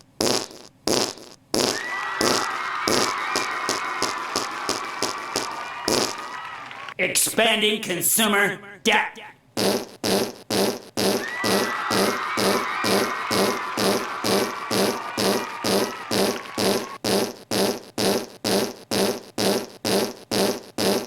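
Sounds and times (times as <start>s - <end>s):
fart sound effect: 0.0s - 6.4s, 9.6s - 21.0s.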